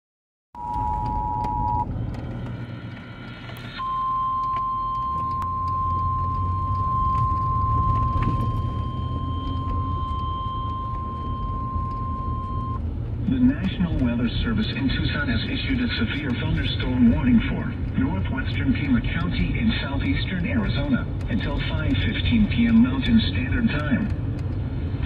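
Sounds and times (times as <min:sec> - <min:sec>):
car rumble: 0:00.6 - 0:25.0.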